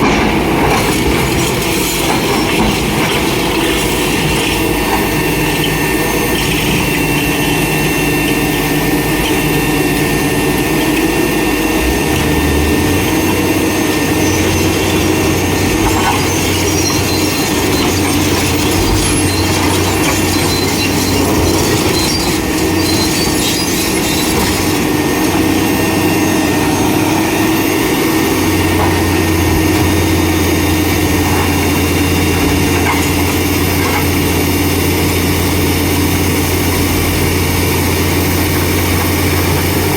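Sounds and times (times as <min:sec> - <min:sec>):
excavator diesel engines: 0:00.0 - 0:39.9
hydraulic whine: 0:00.0 - 0:39.9.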